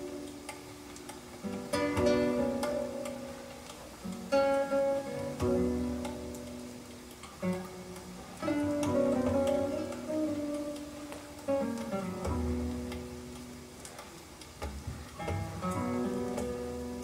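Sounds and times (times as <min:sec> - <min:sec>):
acoustic guitar music over loudspeakers: 0:00.0 - 0:14.0, 0:14.9 - 0:17.0.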